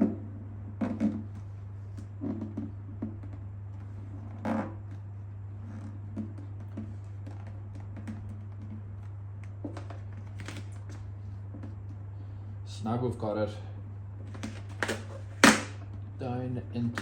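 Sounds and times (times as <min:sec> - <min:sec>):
vinyl film rustling and rubbing: 0:00.0 - 0:12.1, 0:14.2 - 0:15.8
steady low hum: 0:00.0 - 0:17.0.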